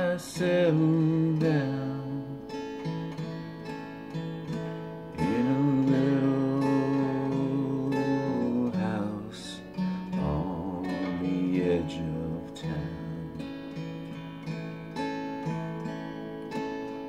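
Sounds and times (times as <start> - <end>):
acoustic guitar slow chords: 0.0 - 17.0.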